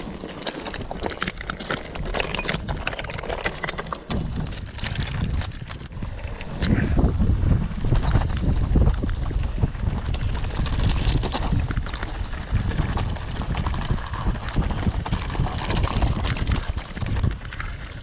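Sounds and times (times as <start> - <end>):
bike rattling clicks and knocks: 0.0 - 18.0
bike tyres over stones: 0.0 - 18.0
wind buffeting microphone: 0.0 - 18.0.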